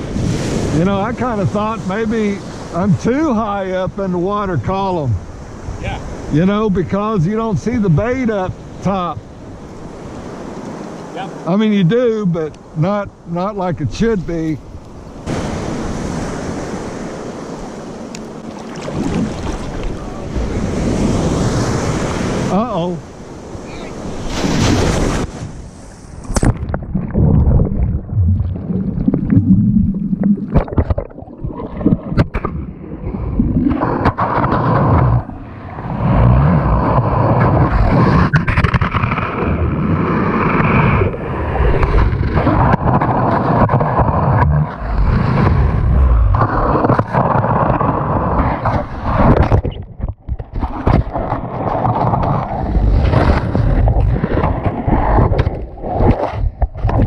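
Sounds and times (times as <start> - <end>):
surf water sloshing and gurgling: 0.0 - 57.0.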